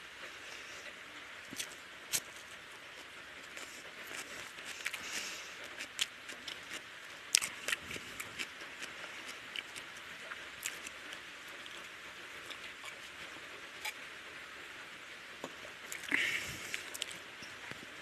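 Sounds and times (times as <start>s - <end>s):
steady hiss: 0.0s - 18.0s
person chewing with wet clicks: 1.5s - 14.0s, 15.4s - 17.9s.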